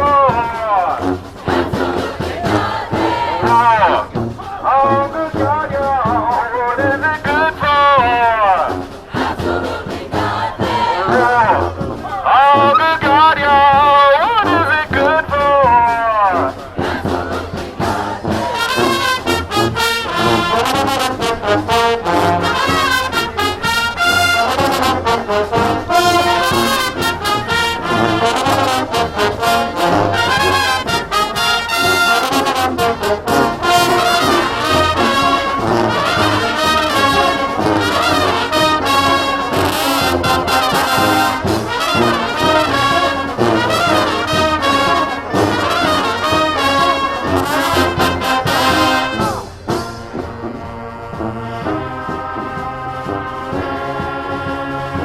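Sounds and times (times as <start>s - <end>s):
steady drum beat: 0.0s - 55.0s
trumpets and trombones: 0.0s - 55.0s.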